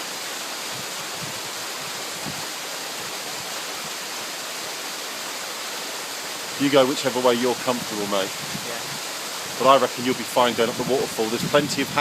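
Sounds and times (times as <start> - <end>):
waterfall rushing onto rocks: 0.0 - 12.0.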